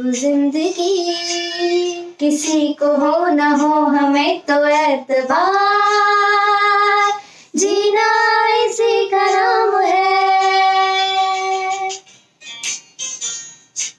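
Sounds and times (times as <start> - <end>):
women singing held notes: 0.1 - 12.0.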